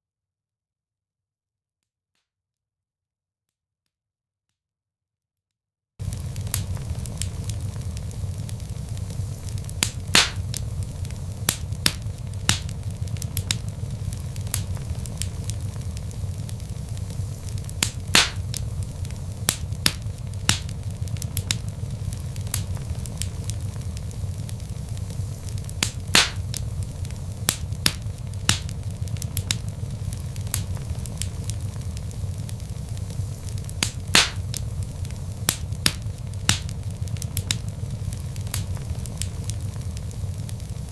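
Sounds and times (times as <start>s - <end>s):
log fire crackling: 6.0s - 40.9s
low rumble of flames: 6.0s - 40.9s.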